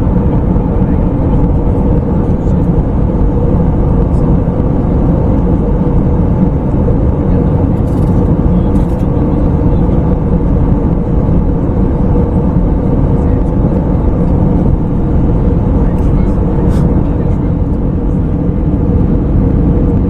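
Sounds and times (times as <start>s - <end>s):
airflow rushing in cabin: 0.0s - 20.0s
jet engines droning: 0.0s - 20.0s.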